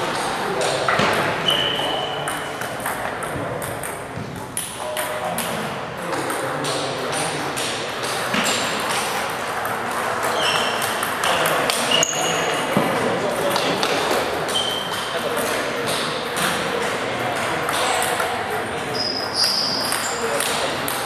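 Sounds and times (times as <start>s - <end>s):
distant table tennis clicks: 0.6s - 21.0s.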